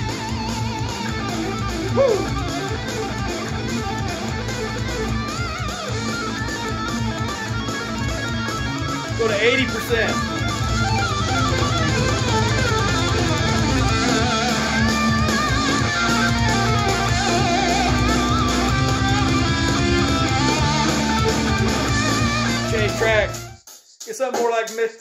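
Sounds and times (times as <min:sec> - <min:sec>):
rock music with electric guitar: 0:00.0 - 0:23.6.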